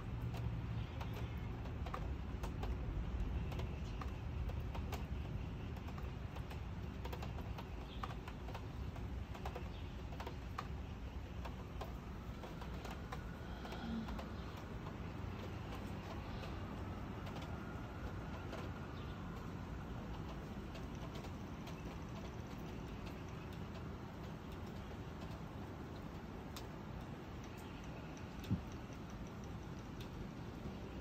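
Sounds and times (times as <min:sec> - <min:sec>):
rainwater dripping: 0:00.0 - 0:31.0.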